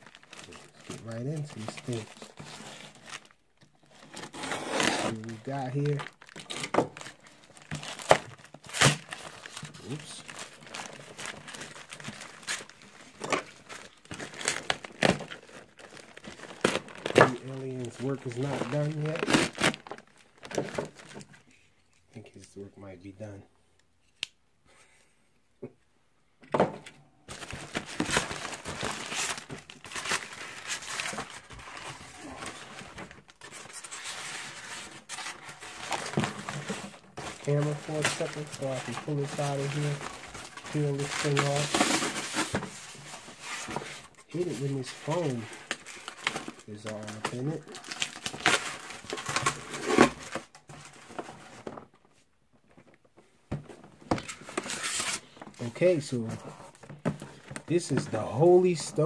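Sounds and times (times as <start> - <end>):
plastic wrapping crinkling and tearing: 0.0 - 21.5, 27.3 - 51.9, 54.1 - 59.0.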